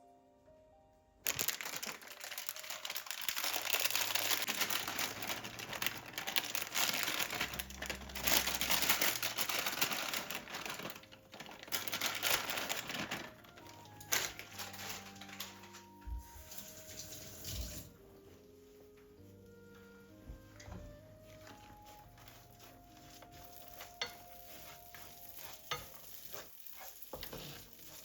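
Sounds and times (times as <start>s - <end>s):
packaging crinkling and rustling: 1.2s - 17.9s, 21.2s - 28.0s.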